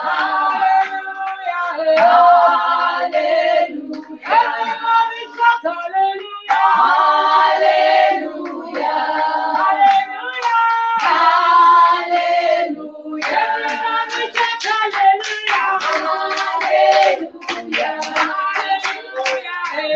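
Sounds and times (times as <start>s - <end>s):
hands clapping: 0.0s - 12.4s, 13.2s - 19.9s
women singing together: 0.0s - 19.9s.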